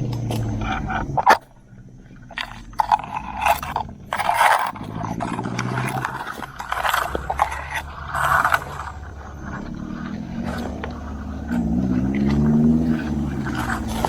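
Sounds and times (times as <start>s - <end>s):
low engine hum: 0.0s - 14.0s
scraping and rustling: 0.0s - 14.0s.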